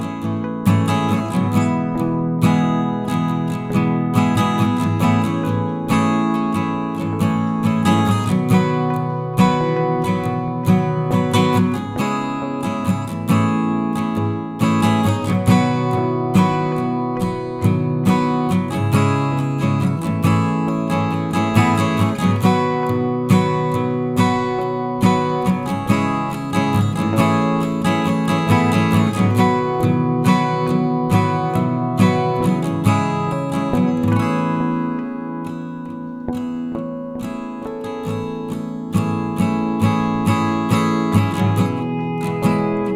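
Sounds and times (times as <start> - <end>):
acoustic guitar playing: 0.0 - 42.9.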